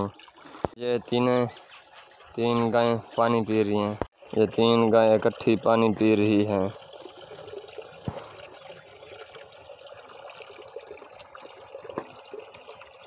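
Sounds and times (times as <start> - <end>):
water sloshing and dripping: 1.6 - 13.0.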